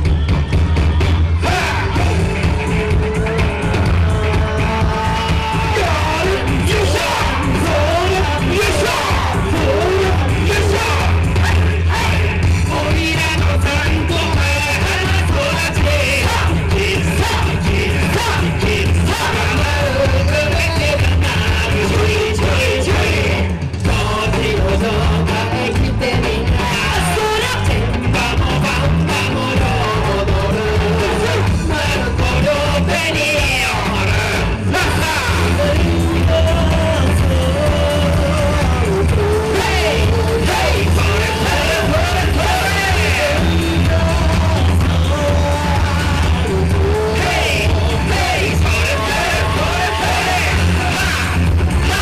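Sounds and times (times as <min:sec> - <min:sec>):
person singing: 0:00.0 - 0:52.0
upbeat rock-style dance music: 0:00.0 - 0:52.0.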